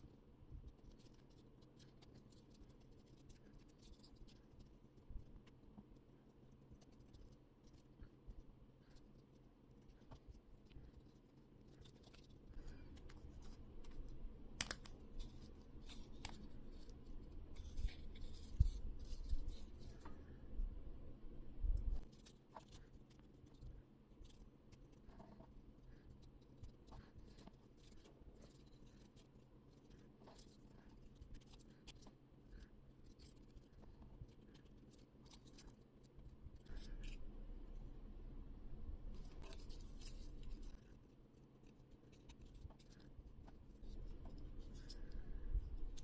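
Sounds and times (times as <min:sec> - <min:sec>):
paper clicks and scratches: 0:00.7 - 0:07.9, 0:08.8 - 0:20.2, 0:22.0 - 0:37.2, 0:39.1 - 0:46.0.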